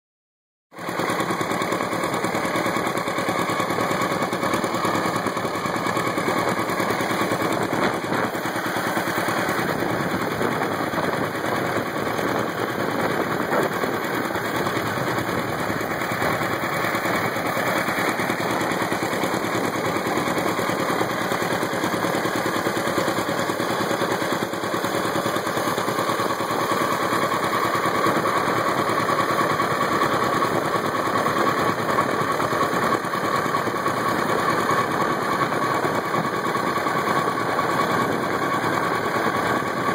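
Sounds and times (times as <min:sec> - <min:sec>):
tractor engine exhaust beats: 0:00.9 - 0:39.9.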